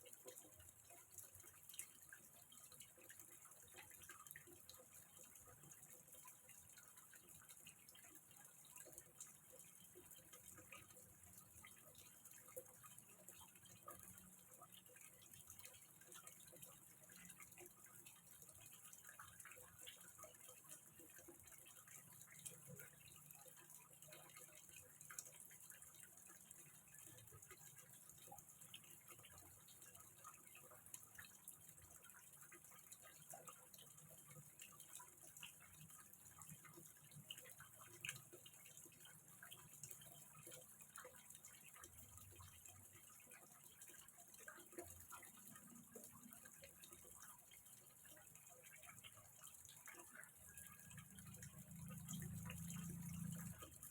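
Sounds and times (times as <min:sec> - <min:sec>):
water dripping into pond: 0:00.0 - 0:53.9.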